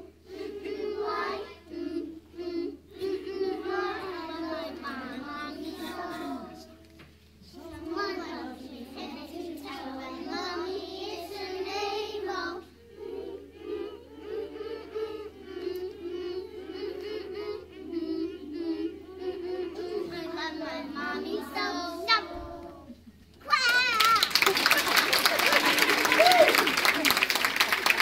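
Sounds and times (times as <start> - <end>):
children singing together: 0.0 - 23.1.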